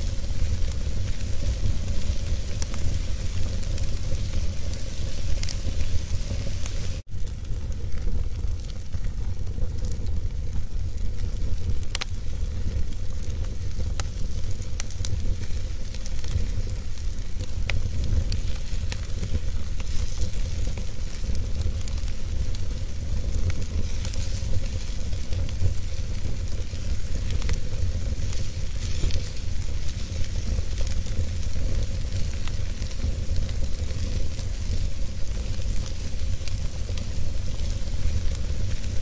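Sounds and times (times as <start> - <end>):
fire rumbling: 0.0 - 39.0
logs crackling and popping: 0.0 - 39.0.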